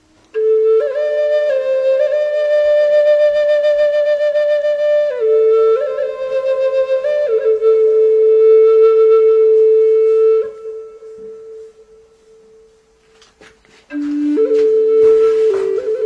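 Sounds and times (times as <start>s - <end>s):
flute music: 0.0s - 16.0s.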